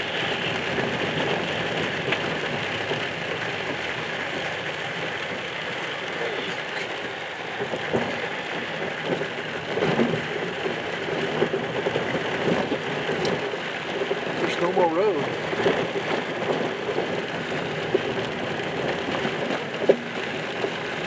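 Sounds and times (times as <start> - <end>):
rain on car: 0.0 - 21.0
tyres on wet road: 0.0 - 21.0.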